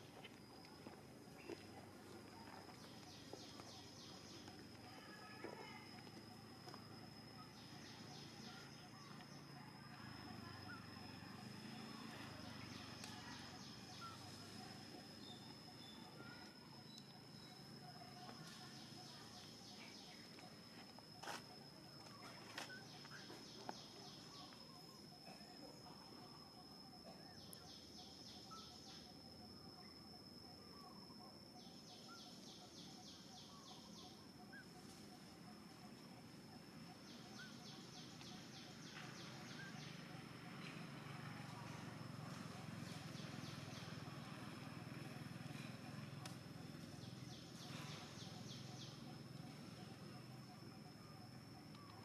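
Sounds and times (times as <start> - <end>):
high insect whine: 0.0 - 52.0.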